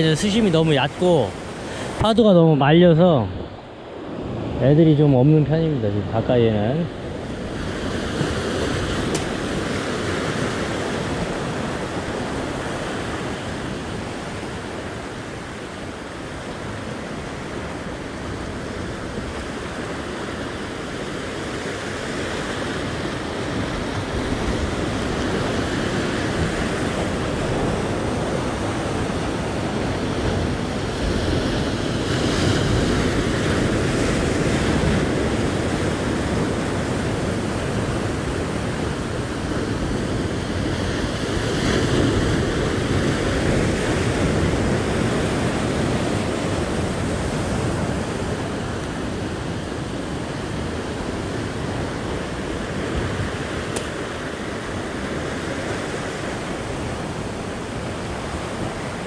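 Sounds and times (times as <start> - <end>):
ocean surf breaking over rocks: 0.0 - 59.0.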